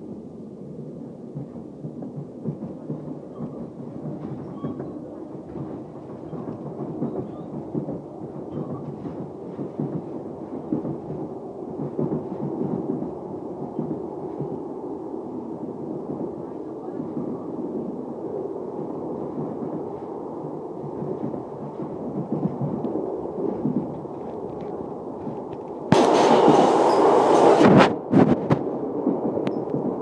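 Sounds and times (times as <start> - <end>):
train rumbling at speed: 0.0 - 30.0.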